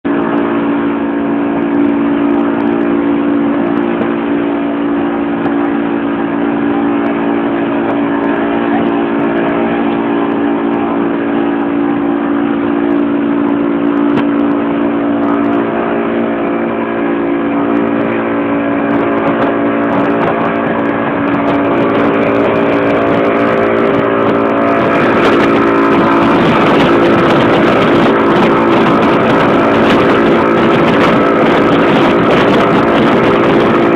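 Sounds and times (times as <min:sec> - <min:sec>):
motorboat engine droning: 0:00.0 - 0:33.9
wake rushing: 0:00.0 - 0:33.9
wind: 0:00.0 - 0:33.9.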